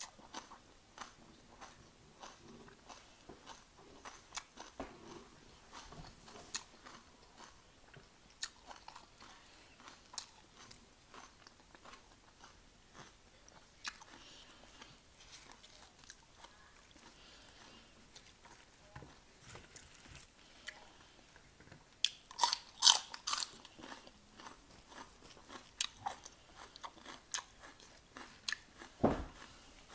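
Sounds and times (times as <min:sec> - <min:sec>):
chewing and crunching crispy food: 0:00.0 - 0:29.9.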